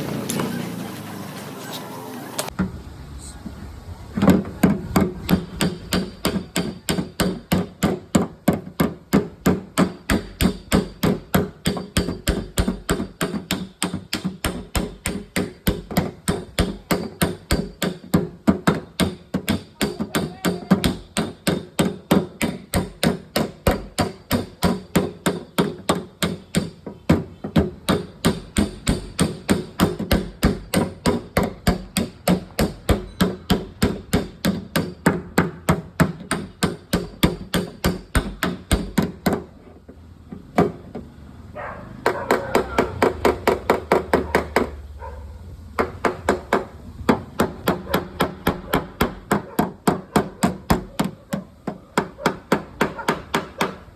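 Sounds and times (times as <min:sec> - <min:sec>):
hammer striking steel panel: 0:04.2 - 0:39.6, 0:45.8 - 0:53.9.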